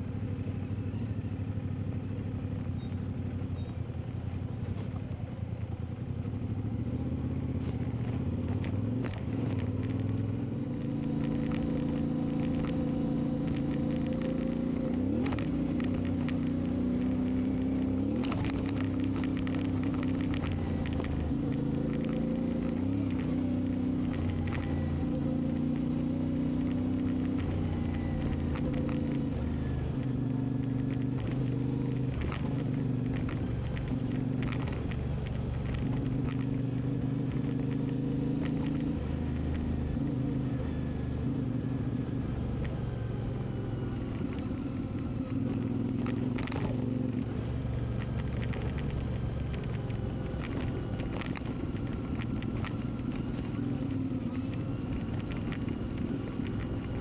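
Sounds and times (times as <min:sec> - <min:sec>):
motorcycle engine revving: 0:06.0 - 0:57.0.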